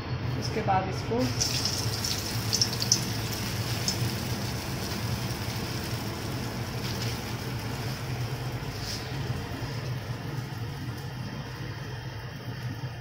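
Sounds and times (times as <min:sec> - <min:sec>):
deep-frying sizzle and bubbling: 0:00.0 - 0:13.0
low steady hum: 0:00.0 - 0:13.0.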